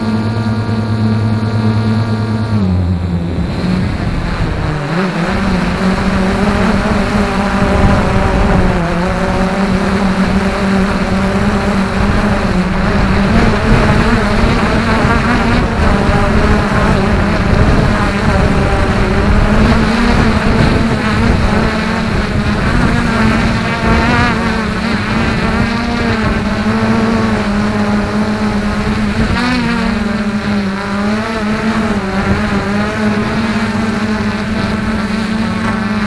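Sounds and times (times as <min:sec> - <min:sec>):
engine droning: 0:00.0 - 0:36.0.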